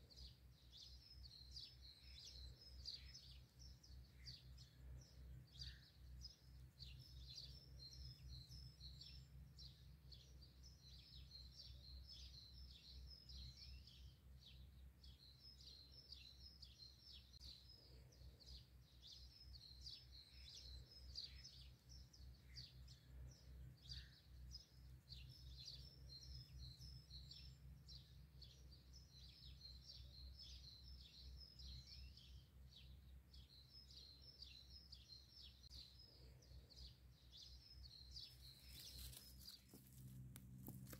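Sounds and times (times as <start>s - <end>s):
small birds twittering and chirping: 0.0s - 40.9s.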